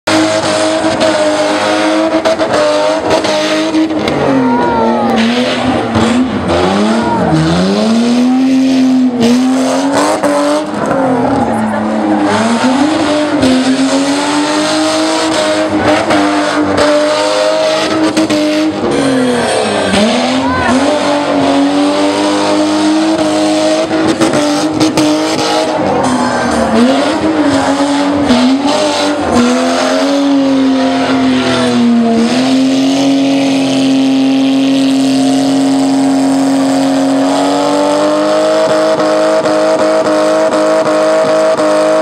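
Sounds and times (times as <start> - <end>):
car engine at high revs: 0.0 - 42.0.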